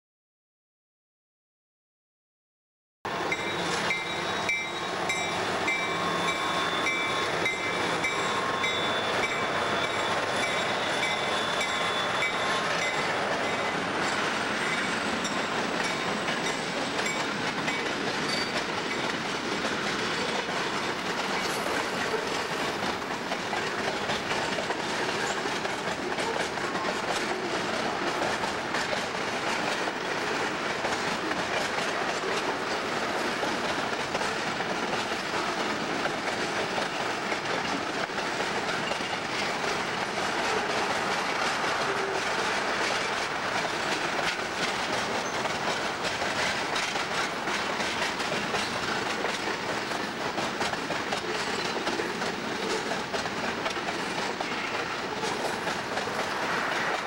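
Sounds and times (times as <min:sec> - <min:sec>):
freight train wheels rumbling: 0:03.1 - 0:57.0.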